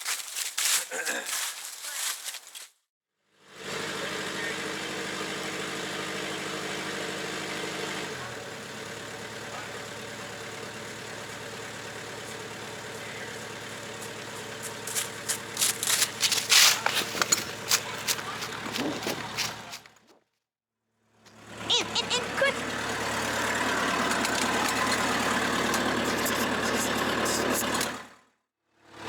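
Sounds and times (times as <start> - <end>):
skid steer diesel engine: 3.4 - 20.0, 21.0 - 29.0.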